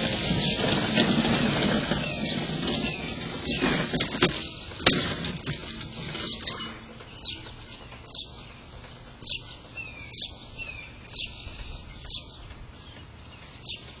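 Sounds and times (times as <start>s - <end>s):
bird chirping: 1.7s - 14.0s.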